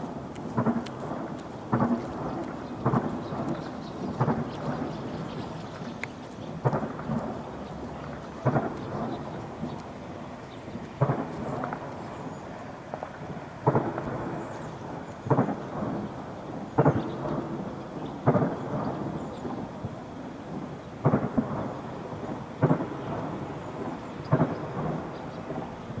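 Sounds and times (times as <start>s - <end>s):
rolling rumble: 0.0s - 26.0s
distant gunfire bangs: 0.5s - 5.4s, 6.6s - 9.8s, 11.0s - 14.6s, 15.2s - 19.9s, 21.0s - 25.7s.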